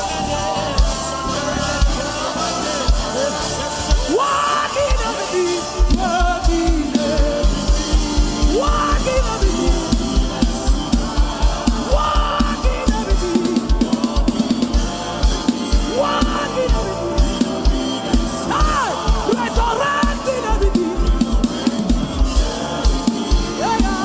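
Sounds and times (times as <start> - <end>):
gospel band music: 0.0 - 24.0.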